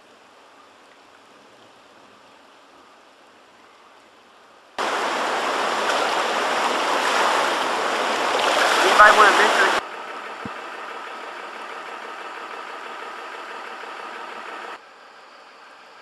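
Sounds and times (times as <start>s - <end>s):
floodwater rushing: 0.1s - 14.8s.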